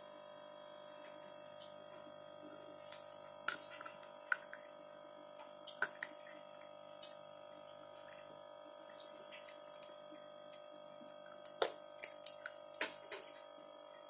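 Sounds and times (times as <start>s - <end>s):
aquarium filter humming: 0.0s - 14.0s.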